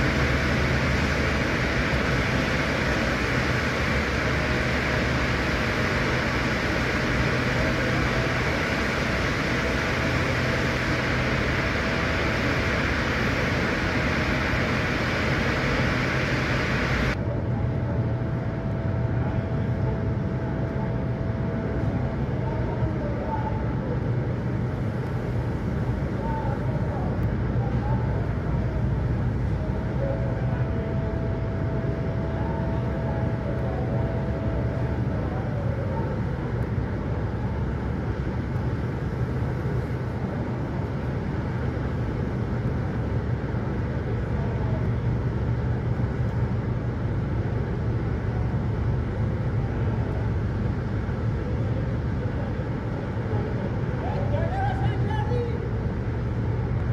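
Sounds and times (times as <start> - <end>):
low mechanical hum with rushing: 0.0 - 56.9
thin steady whine: 0.0 - 56.9.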